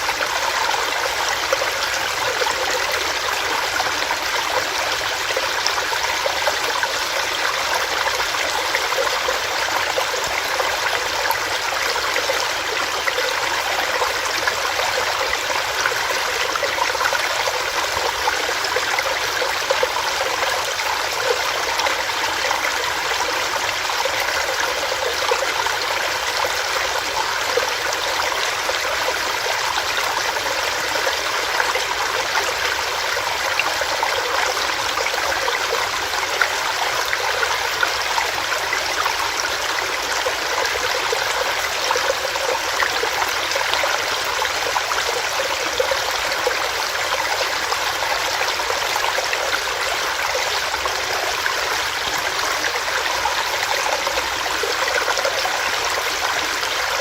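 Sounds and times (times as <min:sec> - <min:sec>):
stream gurgling over stones: 0:00.0 - 0:57.0.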